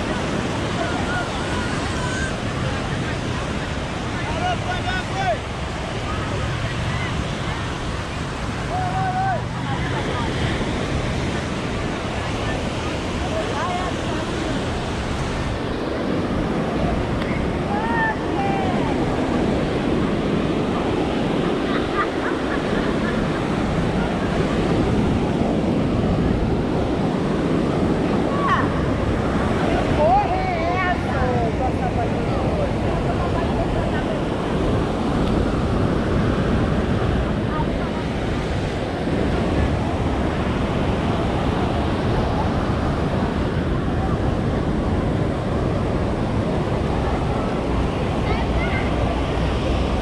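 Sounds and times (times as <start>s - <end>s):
ocean surf on a beach: 0.0s - 50.0s
wind buffeting microphone: 0.0s - 50.0s.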